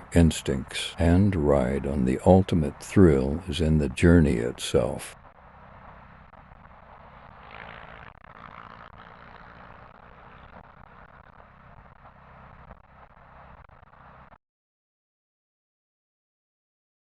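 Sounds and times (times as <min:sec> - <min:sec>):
faint motorcycle engine: 0:00.0 - 0:14.4
road and wind noise: 0:00.0 - 0:14.4.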